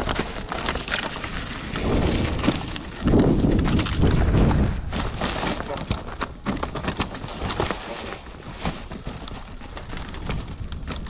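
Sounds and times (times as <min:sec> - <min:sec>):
tyres rolling over stony track: 0:00.0 - 0:11.0.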